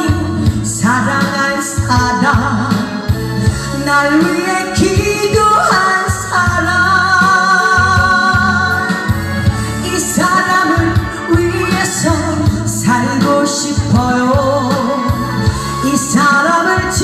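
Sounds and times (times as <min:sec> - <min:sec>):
pop song over loudspeakers: 0:00.0 - 0:17.0.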